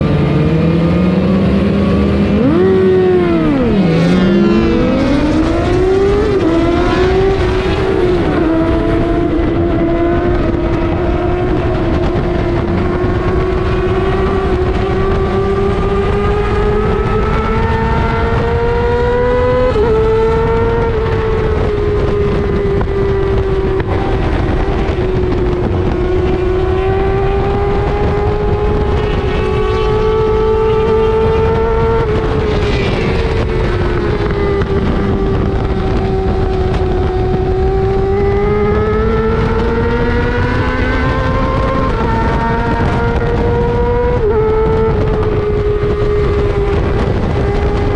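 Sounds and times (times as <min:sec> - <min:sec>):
motorcycle engine accelerating hard: 0:00.0 - 0:47.9.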